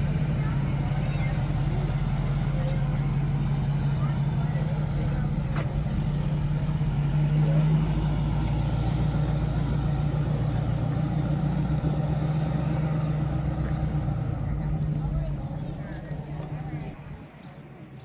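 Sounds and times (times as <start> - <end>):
car engine idling: 0.0 - 17.4.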